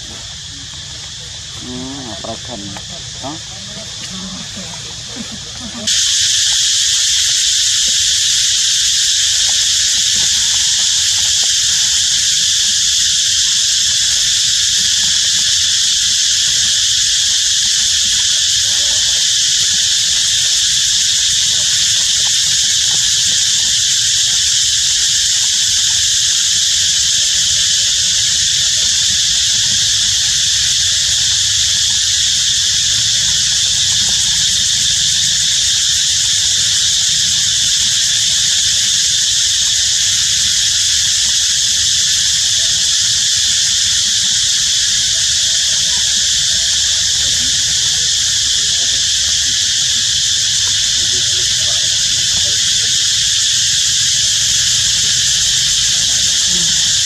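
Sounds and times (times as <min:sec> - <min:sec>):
insects chorus shrill drone: 0:00.0 - 0:57.0.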